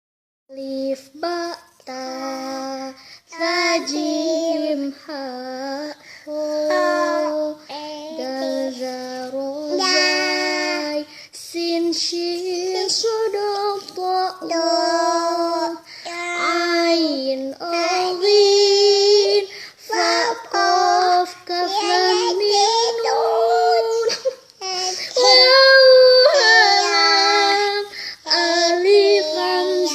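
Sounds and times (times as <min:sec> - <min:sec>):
young child singing: 0:00.5 - 0:29.9.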